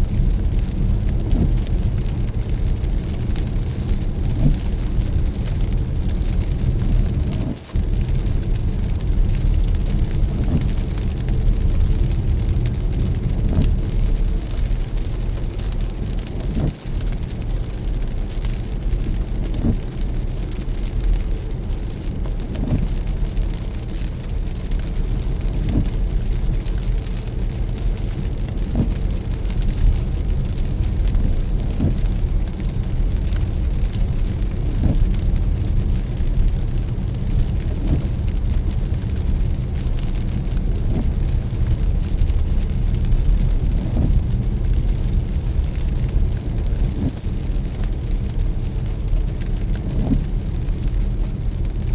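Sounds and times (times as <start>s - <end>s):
rain patter on glass and roof: 0.0s - 51.9s
road and engine rumble: 0.0s - 51.9s
windshield wipers sweeping: 0.1s - 51.9s
light ticks: 0.4s - 51.4s.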